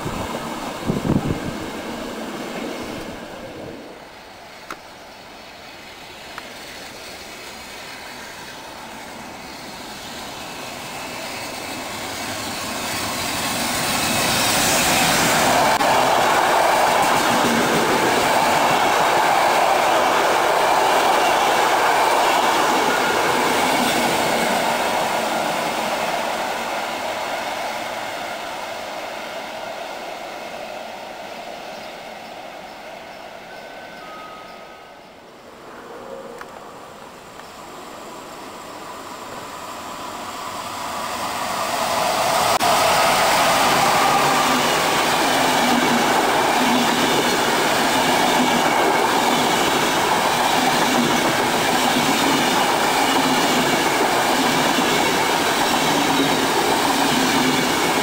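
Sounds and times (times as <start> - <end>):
passenger train passing: 0.0 - 58.0.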